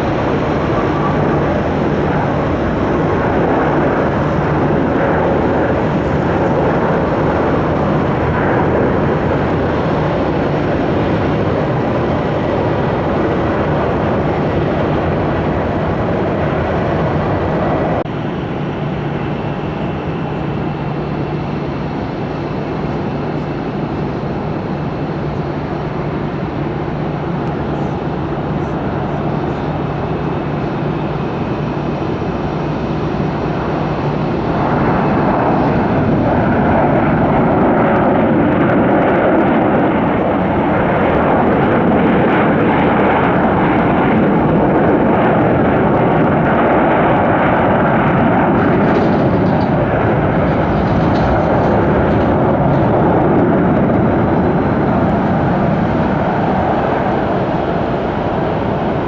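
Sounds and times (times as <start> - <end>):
jet airliner engines landing: 0.0 - 59.0.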